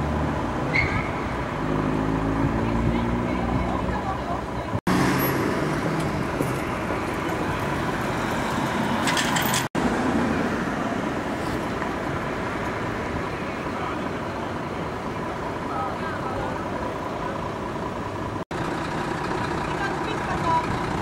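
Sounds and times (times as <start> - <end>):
street traffic noise: 0.0 - 21.0.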